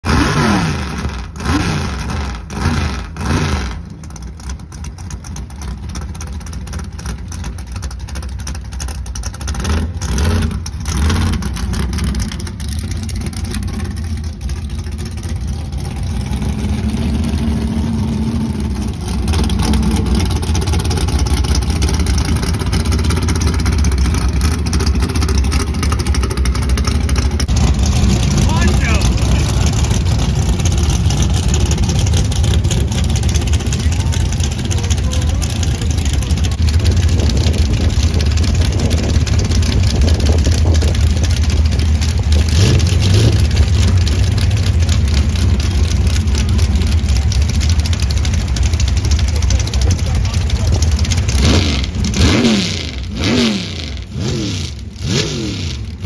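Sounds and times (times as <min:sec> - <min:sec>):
race engine revving: 0:00.0 - 0:56.0.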